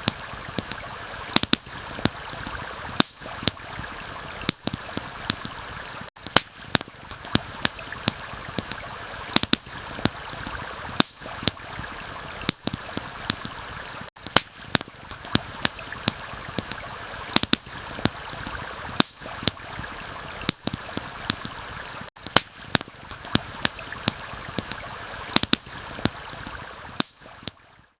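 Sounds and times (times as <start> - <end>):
campfire crackling and popping: 0.0 - 27.6
stream water rushing: 0.0 - 28.0.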